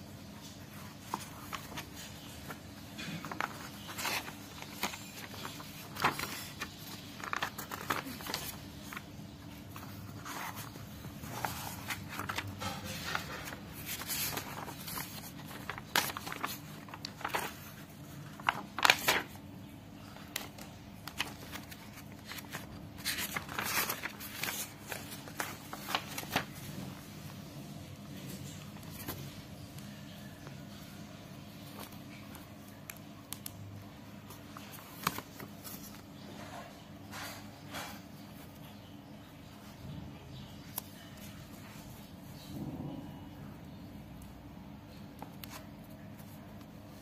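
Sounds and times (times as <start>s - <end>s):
book pages rustling: 0.1s - 42.5s, 43.6s - 47.0s.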